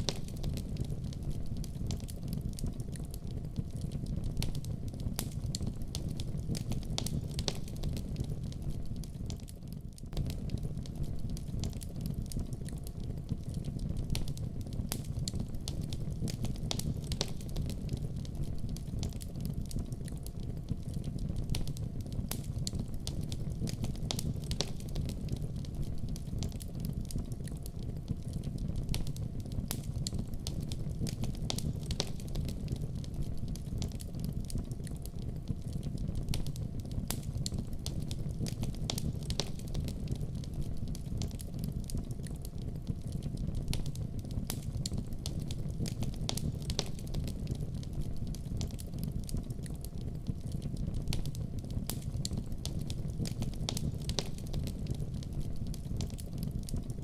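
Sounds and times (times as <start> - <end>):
fire crackles and pops: 0.0 - 57.0
fire flames rumbling: 0.0 - 57.0.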